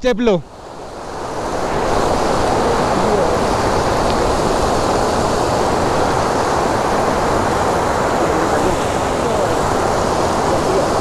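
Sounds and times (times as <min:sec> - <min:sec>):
stream rushing over rocks: 0:00.5 - 0:11.0.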